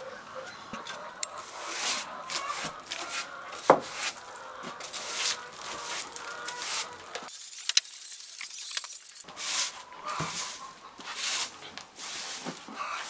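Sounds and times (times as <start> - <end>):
push broom sweeping and scraping: 1.4 - 13.0.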